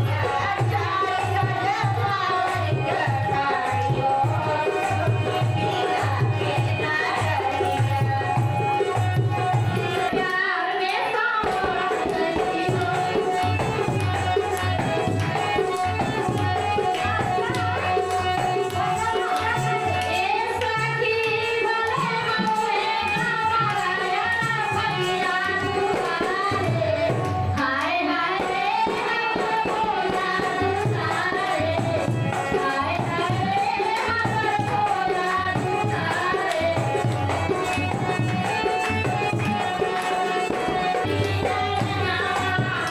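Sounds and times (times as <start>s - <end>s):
person singing devotional melody: 0.0s - 42.9s
tabla rhythm: 0.0s - 42.9s.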